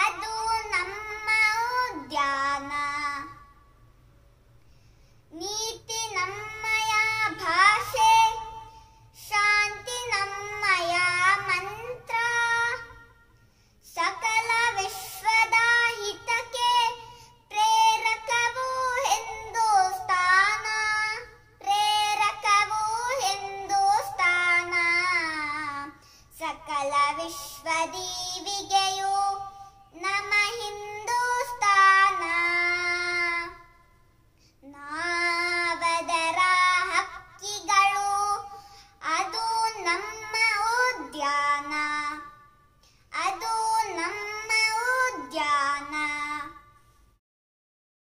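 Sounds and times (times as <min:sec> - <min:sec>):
boy singing: 0:00.0 - 0:03.6, 0:05.3 - 0:33.9, 0:34.6 - 0:46.8.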